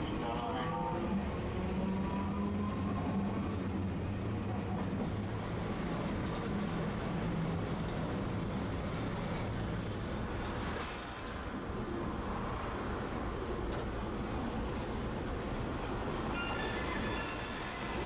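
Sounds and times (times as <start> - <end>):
streetcar motors humming: 0.0 - 18.0.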